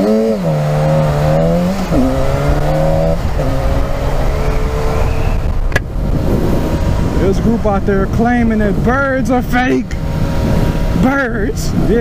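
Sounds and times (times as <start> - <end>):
wind rush: 0.4 - 12.0.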